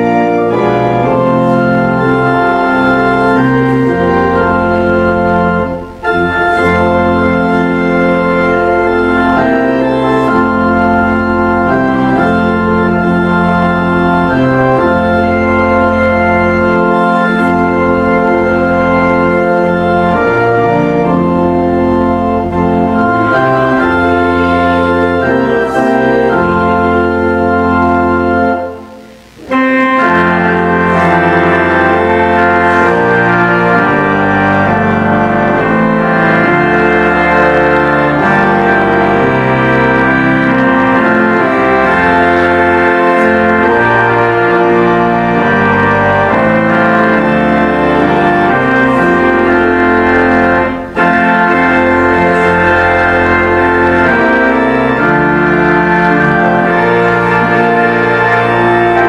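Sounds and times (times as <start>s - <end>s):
organ playing sustained chords: 0.0s - 59.0s.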